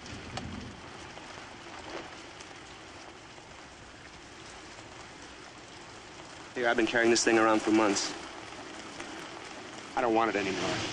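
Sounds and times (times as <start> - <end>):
rain falling: 0.0 - 10.9.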